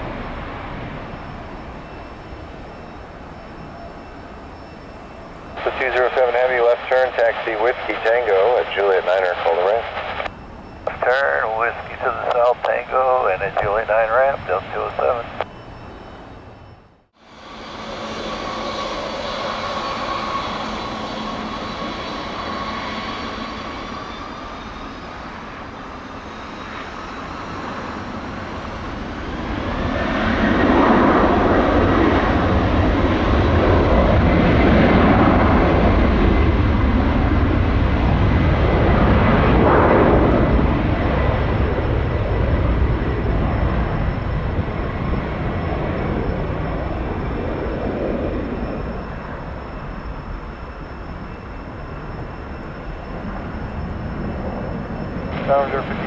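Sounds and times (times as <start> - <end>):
jet engine roar: 0.0 - 56.0
jet engine whine: 0.0 - 56.0.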